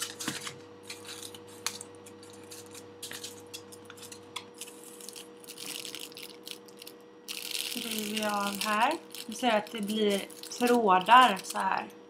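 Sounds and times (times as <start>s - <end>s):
foam pack clicks and rustles: 0.0s - 11.6s.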